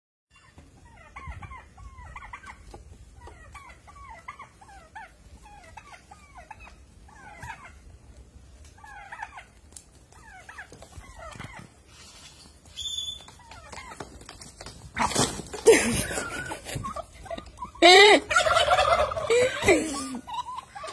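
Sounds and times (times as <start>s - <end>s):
turkeys yelping: 0.3s - 20.9s.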